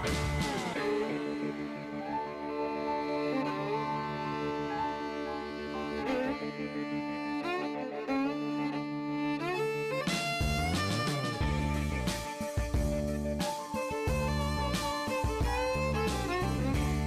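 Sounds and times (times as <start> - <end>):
sustained bowed strings: 0.0 - 17.0.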